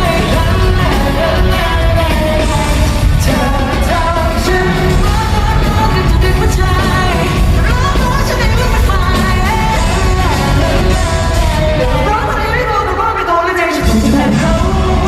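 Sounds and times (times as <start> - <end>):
heavy bass: 0.0 - 12.9, 13.8 - 15.0
live pop band: 0.0 - 15.0
person singing: 0.0 - 15.0.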